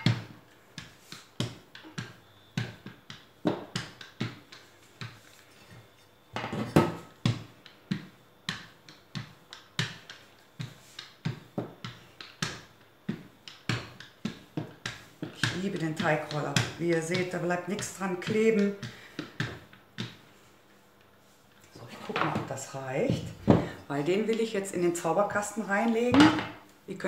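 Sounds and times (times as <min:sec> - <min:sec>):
dough roller knocking: 0:00.0 - 0:24.5.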